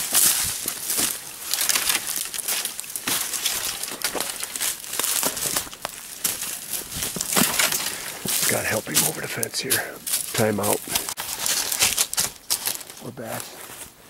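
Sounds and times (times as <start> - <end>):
branches brushing past: 0.0 - 13.9
footsteps crunching dry leaves: 0.0 - 14.0.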